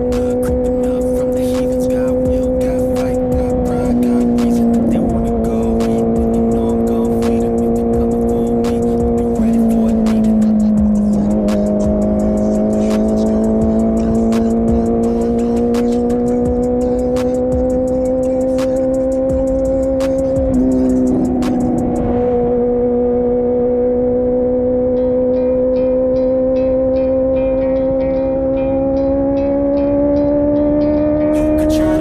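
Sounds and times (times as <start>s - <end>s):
motorcycle engine cruising: 0.0s - 32.0s.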